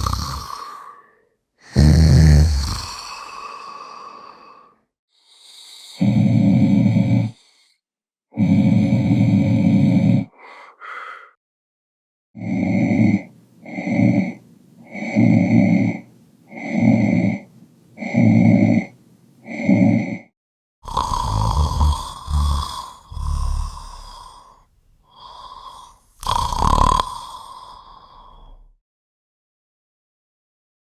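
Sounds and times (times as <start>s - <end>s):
person snoring: 0.0s - 11.4s, 12.4s - 28.8s.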